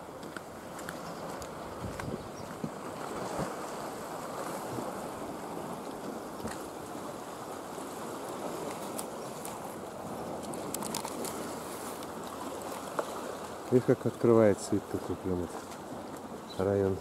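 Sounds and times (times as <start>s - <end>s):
sea waves washing against rocks: 0.0s - 17.0s.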